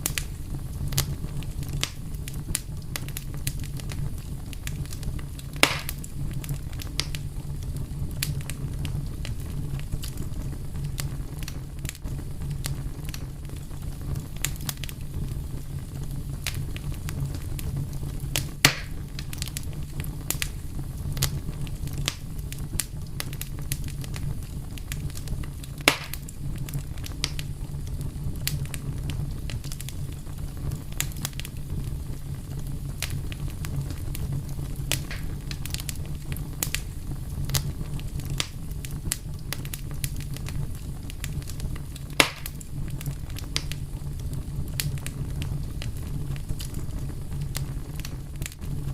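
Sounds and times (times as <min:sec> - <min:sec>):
fire snaps and pops: 0:00.0 - 0:48.9
low fire rumble: 0:00.0 - 0:48.9
wood fire crackling: 0:00.0 - 0:48.9.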